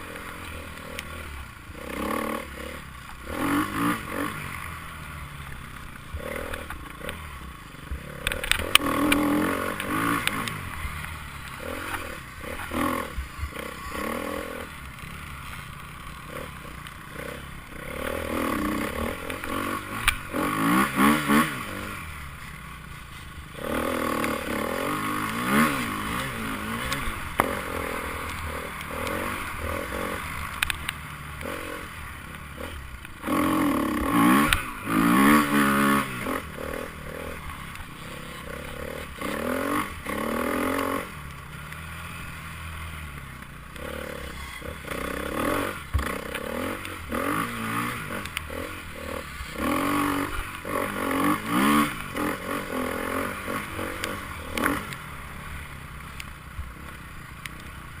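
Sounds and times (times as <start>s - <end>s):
motorcycle engines revving past: 0.0s - 58.0s.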